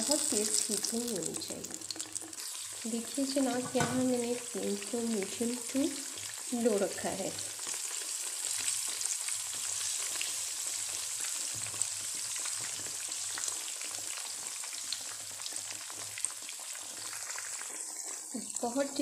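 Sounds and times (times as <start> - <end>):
deep-frying in hot oil: 0.0 - 19.0.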